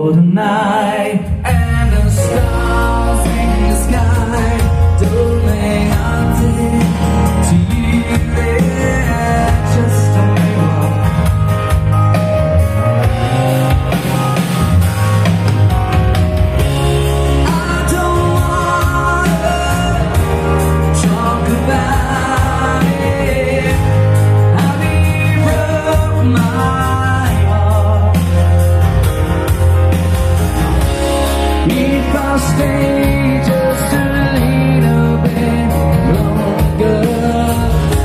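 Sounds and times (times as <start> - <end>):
pop-rock song over loudspeakers: 0.0 - 38.0.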